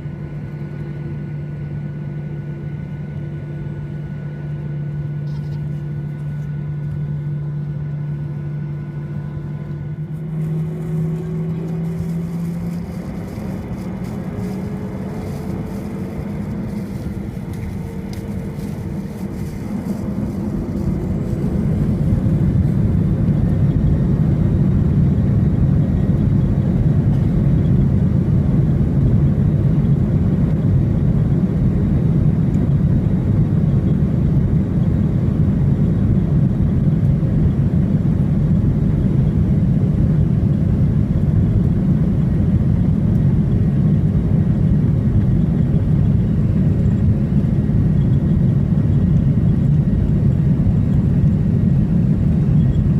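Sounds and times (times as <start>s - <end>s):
jet engines roaring: 5.7s - 52.9s.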